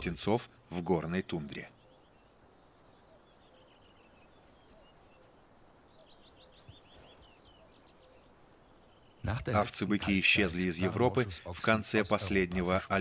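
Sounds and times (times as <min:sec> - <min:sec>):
faint bird calls: 0:00.0 - 0:10.6.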